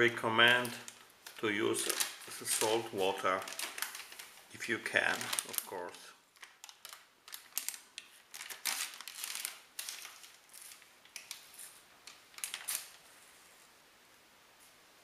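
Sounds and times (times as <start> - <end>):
plastic packaging crinkling: 0.2 - 13.1
foil pouch crackling: 0.4 - 13.0.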